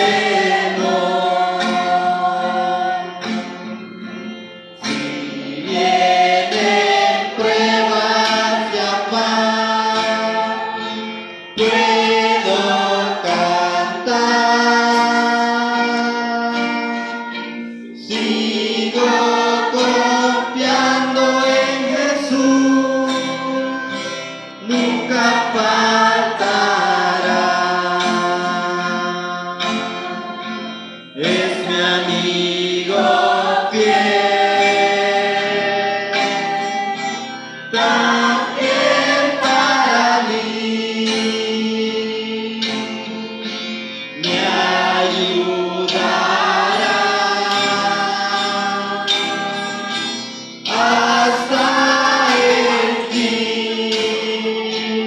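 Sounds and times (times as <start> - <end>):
congregation singing a hymn: 0.0 - 55.0
strummed acoustic guitars: 0.0 - 55.0.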